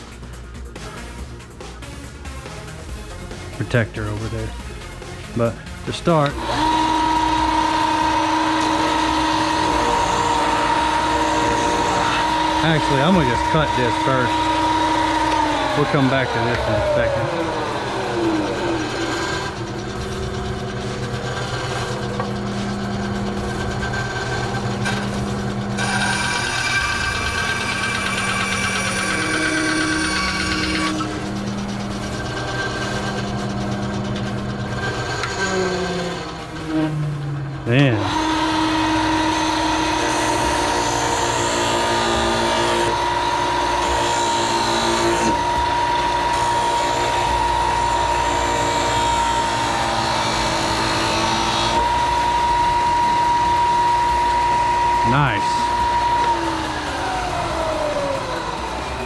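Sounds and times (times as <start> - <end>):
electric saw cutting wood: 1.9 - 59.0
power tool motor whining: 3.4 - 59.0.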